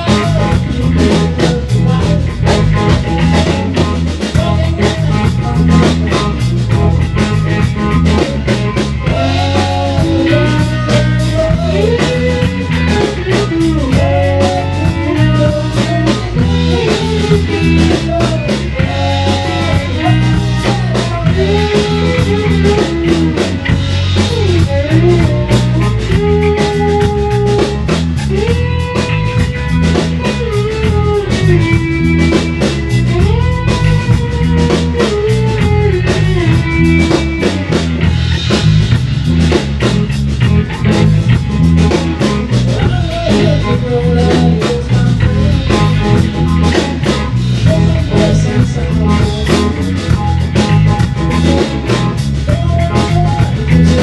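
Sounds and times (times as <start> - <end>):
blues-rock band playing live: 0.0 - 54.0
lead guitar bending notes: 0.0 - 54.0.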